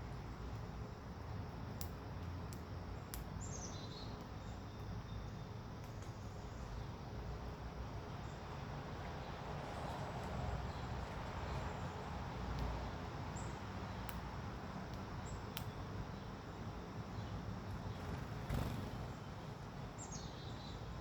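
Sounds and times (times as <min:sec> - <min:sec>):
outdoor background noise: 0:00.0 - 0:21.0
small birds chirping: 0:02.9 - 0:21.0.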